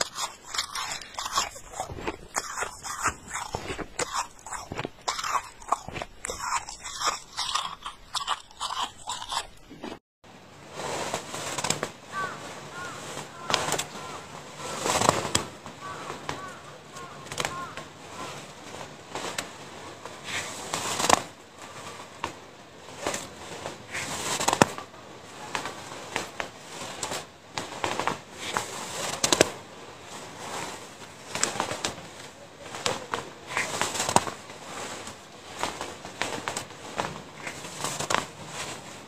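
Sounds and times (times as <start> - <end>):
hand squeezing crunching snow: 0.0 - 10.0, 10.6 - 39.0.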